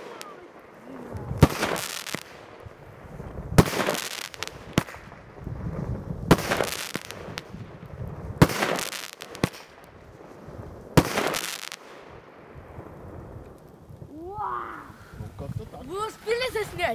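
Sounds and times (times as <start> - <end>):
fireworks bangs: 0.0 - 14.1
fireworks crackling: 0.0 - 16.9.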